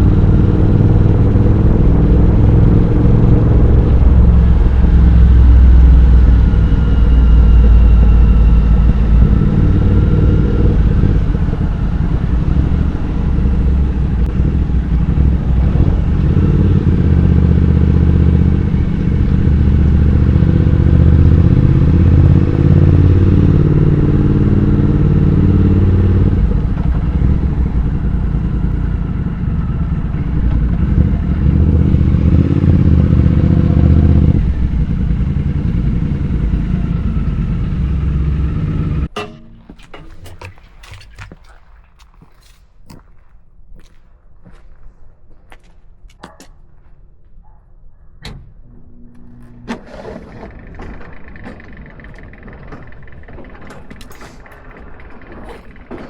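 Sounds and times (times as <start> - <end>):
motorcycle engine revving: 0.0 - 40.2, 48.6 - 56.0.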